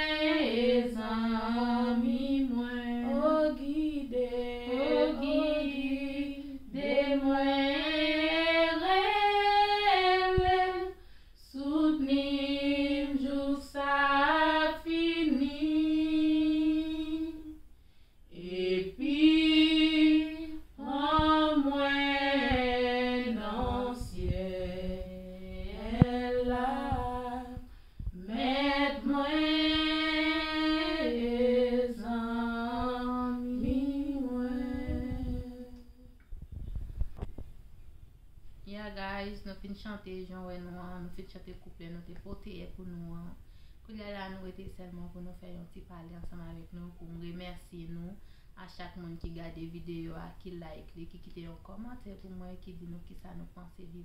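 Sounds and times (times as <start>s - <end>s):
women singing a cappella: 0.0s - 36.2s, 38.7s - 54.0s.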